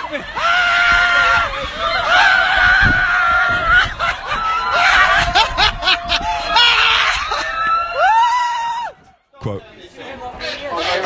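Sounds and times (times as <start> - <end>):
people laughing and shrieking: 0.0 - 9.0.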